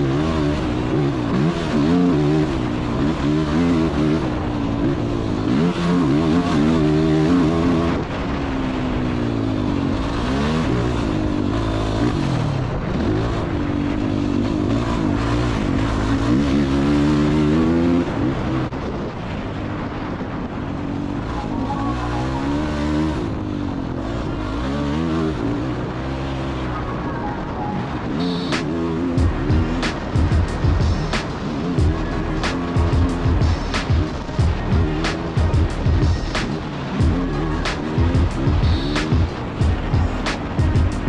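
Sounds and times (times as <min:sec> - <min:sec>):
dirt bike engine revving: 0:00.0 - 0:18.8, 0:21.1 - 0:26.7, 0:27.9 - 0:41.0.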